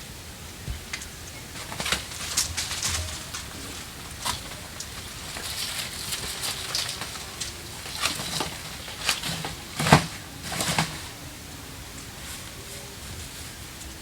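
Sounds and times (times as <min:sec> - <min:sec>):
dry plants rustling and crackling: 0:00.3 - 0:14.0.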